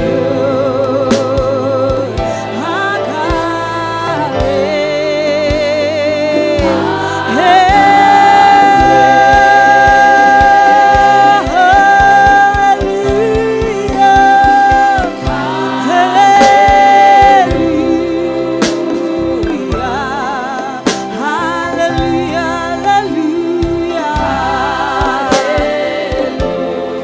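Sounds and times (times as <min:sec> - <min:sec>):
band with steady beat: 0:00.0 - 0:27.0
voices singing with vibrato: 0:02.0 - 0:27.0.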